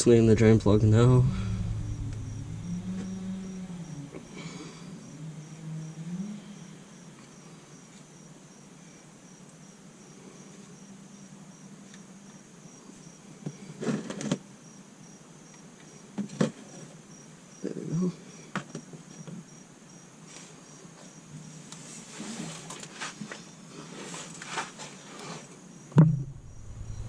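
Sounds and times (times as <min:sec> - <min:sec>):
crickets chirping: 0:00.4 - 0:22.0, 0:22.9 - 0:27.0.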